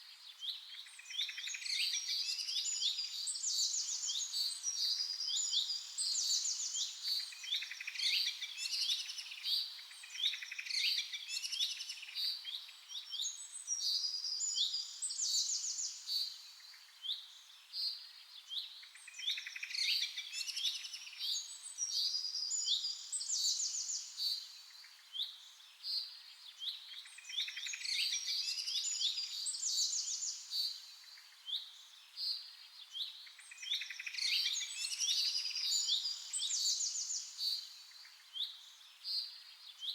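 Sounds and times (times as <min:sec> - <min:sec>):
small birds chirping and trilling: 0:00.3 - 0:39.9.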